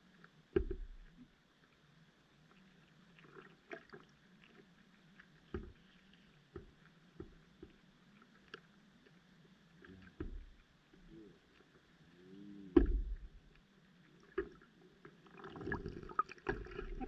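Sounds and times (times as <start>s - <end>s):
soft underwater clicks and knocks: 0.0s - 11.9s, 12.7s - 17.0s
low steady underwater hum: 0.0s - 17.0s.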